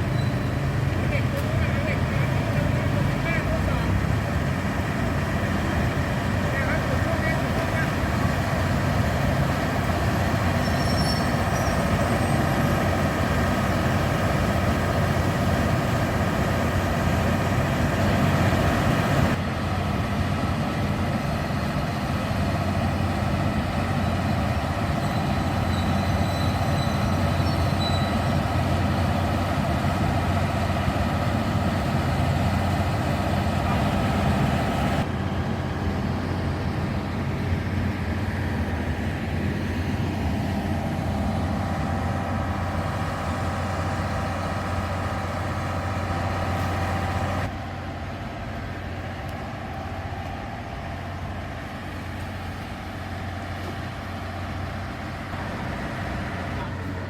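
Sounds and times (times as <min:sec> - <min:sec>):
diesel railcar running: 0:00.0 - 0:57.0.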